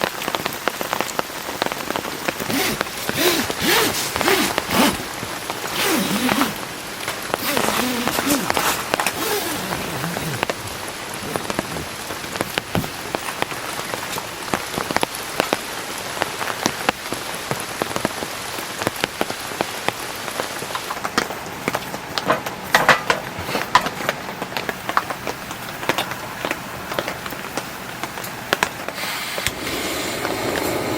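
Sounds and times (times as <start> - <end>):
heavy rain on a tent: 0.0 - 30.9.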